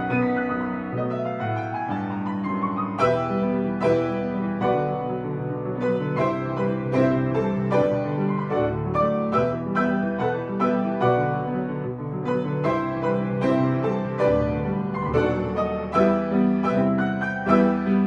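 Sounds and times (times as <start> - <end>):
piano playing: 0.0 - 18.0.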